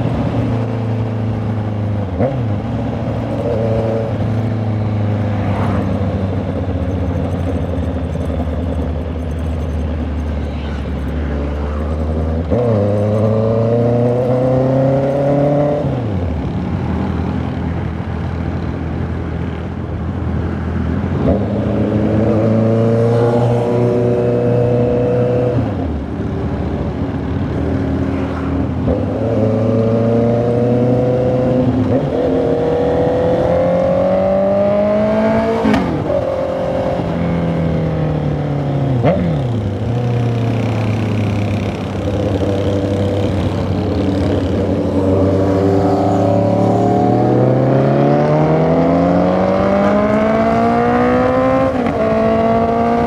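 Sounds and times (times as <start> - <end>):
motorcycle engine and exhaust: 0.0 - 53.0.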